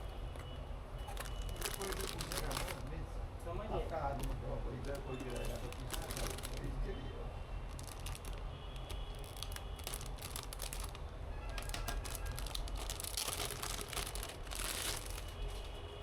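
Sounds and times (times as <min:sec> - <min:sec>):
packaging rustle: 0:01.0 - 0:02.9, 0:03.8 - 0:06.8, 0:07.7 - 0:15.8
plastic packaging crinkling: 0:01.0 - 0:03.0, 0:03.7 - 0:06.8, 0:07.6 - 0:15.8.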